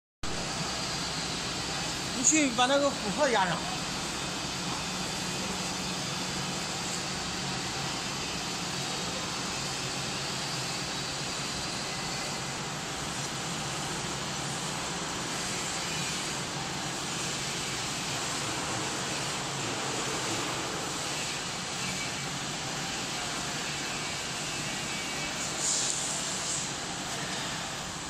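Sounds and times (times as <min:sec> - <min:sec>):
coating machine whirring: 0:00.3 - 0:28.0.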